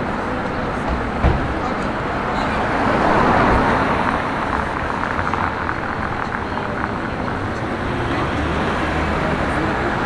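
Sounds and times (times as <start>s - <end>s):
city street traffic: 0.0s - 10.0s.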